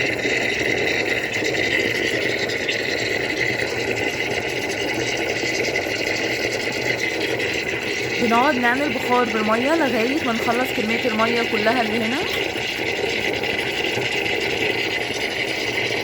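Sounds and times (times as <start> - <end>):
espresso machine steam frother: 0.0 - 16.0.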